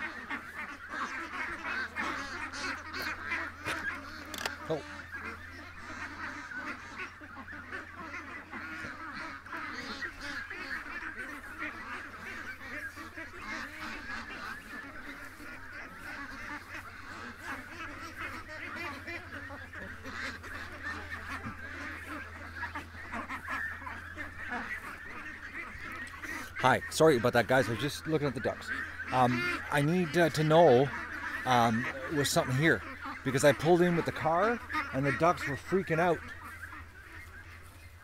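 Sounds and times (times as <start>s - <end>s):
ducks quacking: 0.0s - 38.0s
geese honking: 0.0s - 38.0s.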